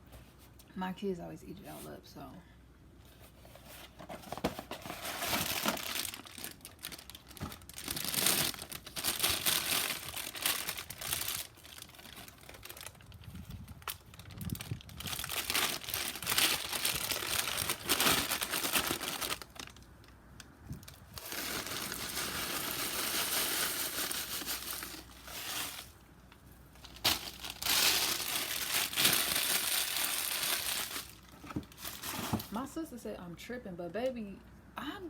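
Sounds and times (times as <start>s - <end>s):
plastic bag crinkling: 3.5s - 20.0s, 20.7s - 32.6s.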